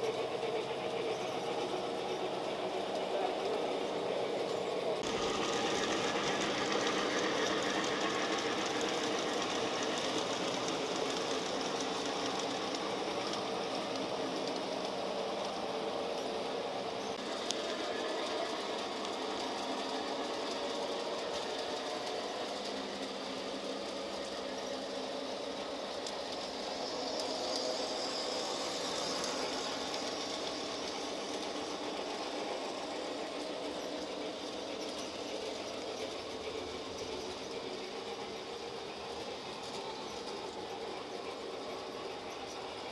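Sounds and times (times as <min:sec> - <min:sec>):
model train motors whirring: 0:00.0 - 0:42.9.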